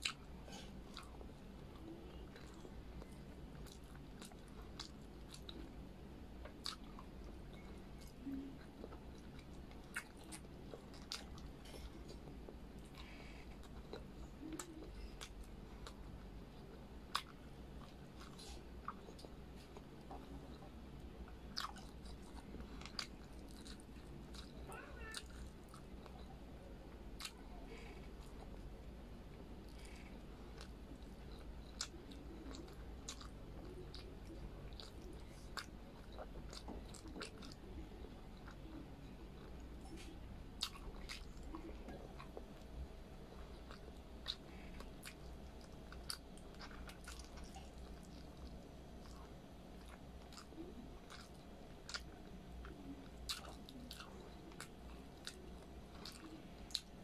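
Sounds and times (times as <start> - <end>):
close chewing and mouth smacks: 0.0 - 57.0.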